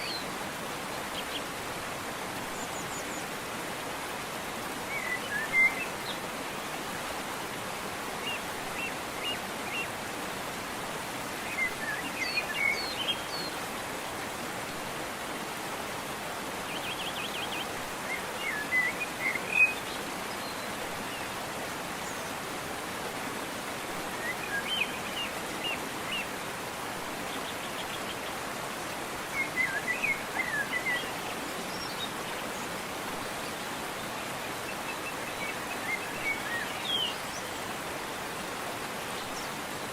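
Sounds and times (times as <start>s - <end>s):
songbirds chirping: 0.0s - 39.9s
waterfall rushing water: 0.0s - 39.9s.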